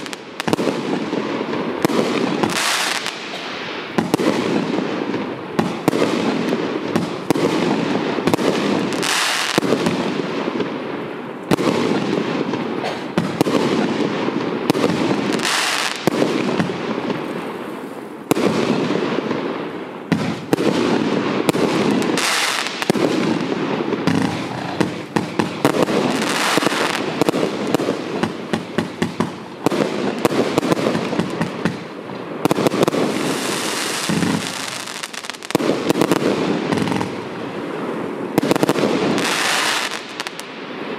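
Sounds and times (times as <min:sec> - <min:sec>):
fireworks crackling and hissing: 0:00.0 - 0:40.9
fireworks launching and banging: 0:00.0 - 0:40.9.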